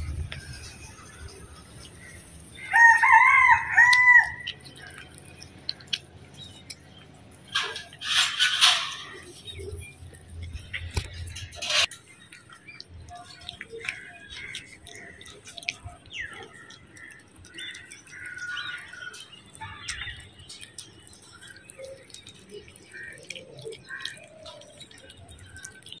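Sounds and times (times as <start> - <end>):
cats chewing and licking: 0.0 - 26.0.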